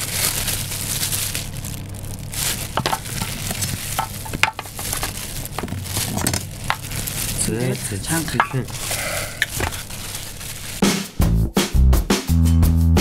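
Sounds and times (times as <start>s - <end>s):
plastic gloves crinkling: 0.0s - 11.2s.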